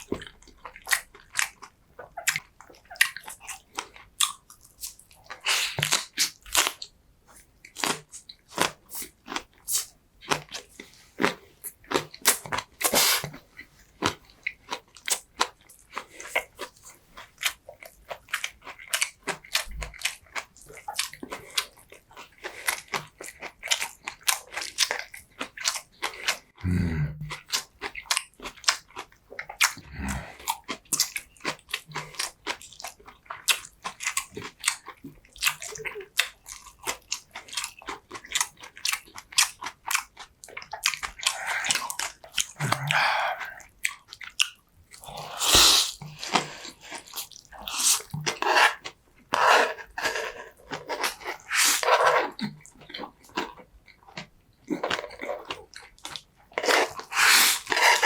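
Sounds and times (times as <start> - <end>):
person chewing and biting food: 0.0 - 26.7, 27.3 - 58.0.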